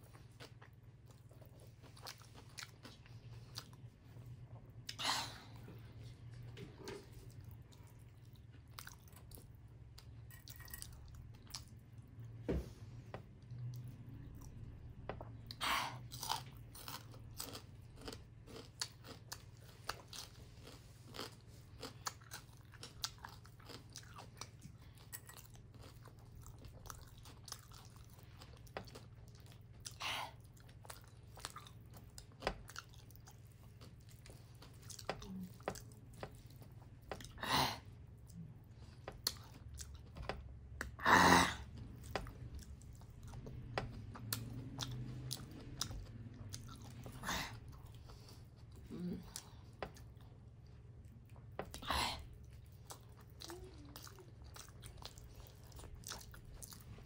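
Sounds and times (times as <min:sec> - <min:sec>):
person chewing food: 0:00.0 - 0:12.4, 0:13.0 - 0:57.0.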